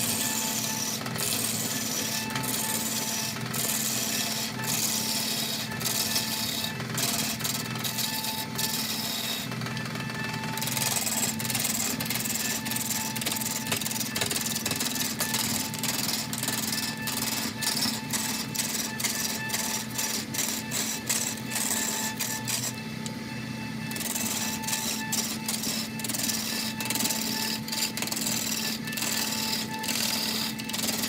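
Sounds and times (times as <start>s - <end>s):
lathe gouge scraping wood: 0.0s - 23.0s, 23.9s - 31.0s
lathe motor humming: 0.0s - 31.0s.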